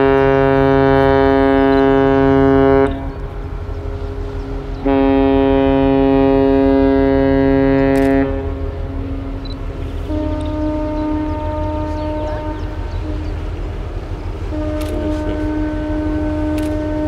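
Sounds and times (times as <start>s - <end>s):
ship's horn blasts: 0.0s - 17.0s.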